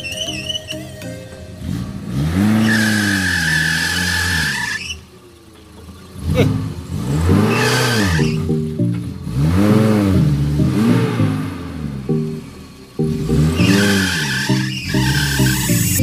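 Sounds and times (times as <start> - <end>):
off-road vehicle engine revving: 1.6 - 16.0.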